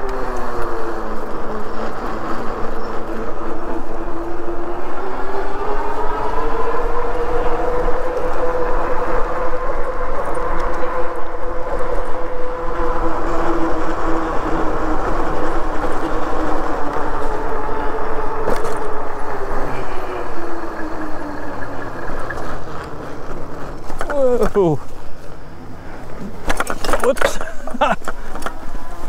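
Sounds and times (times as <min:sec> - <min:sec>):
electric bike motor whine: 0:00.0 - 0:26.3
wind and road noise: 0:00.0 - 0:29.0.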